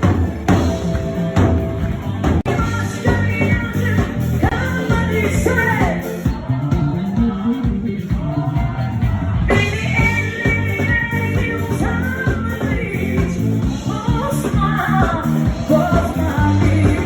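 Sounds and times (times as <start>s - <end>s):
pop-rock song with singing: 0.0s - 17.0s.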